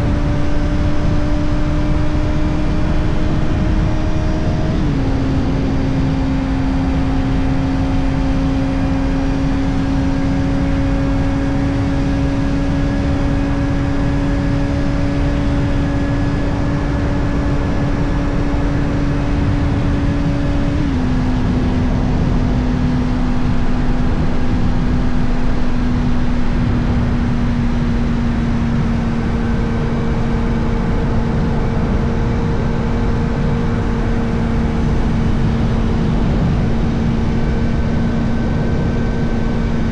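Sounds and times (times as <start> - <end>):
motorcycle engine high revving: 0.0 - 39.9
wind rush: 0.0 - 39.9.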